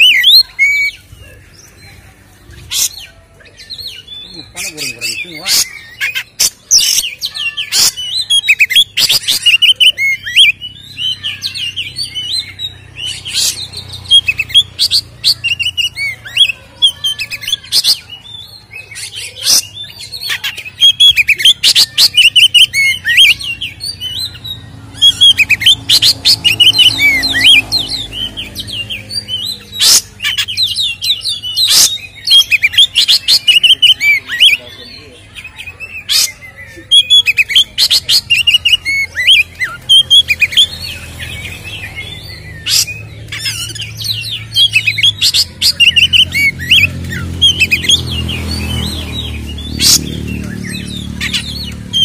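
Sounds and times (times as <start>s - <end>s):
bird singing whistles and chirps: 2.6s - 52.0s.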